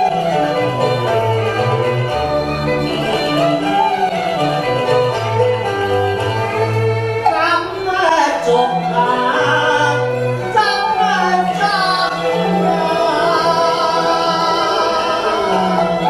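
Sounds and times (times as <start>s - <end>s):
instrumental accompaniment with bass: 0.0s - 16.0s.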